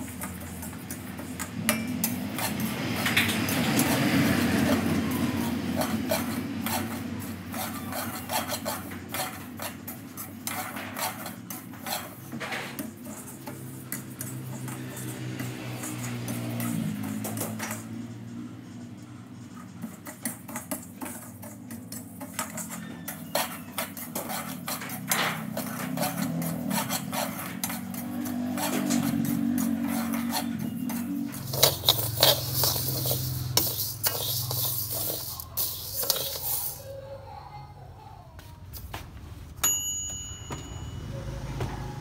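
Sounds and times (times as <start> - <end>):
metal spatula scraping wok: 0.0 - 36.9.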